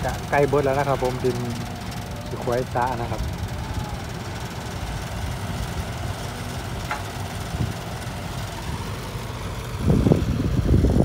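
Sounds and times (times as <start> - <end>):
diesel engines rumbling: 0.0 - 11.0.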